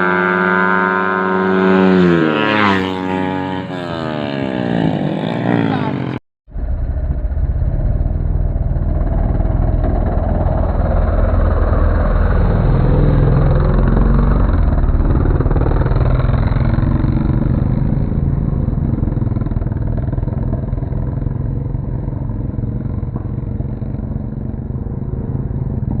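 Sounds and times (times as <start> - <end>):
small motorcycle engine running: 0.0 - 26.0.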